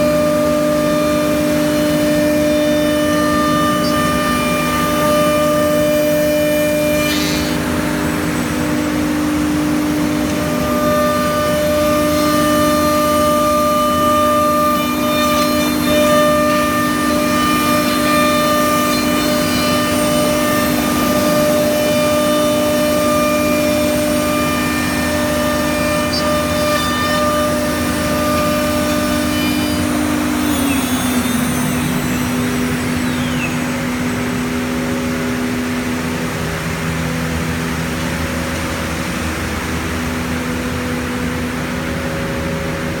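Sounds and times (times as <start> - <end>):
router cutting wood: 0.0 - 42.9
router spindle whine: 0.0 - 43.0.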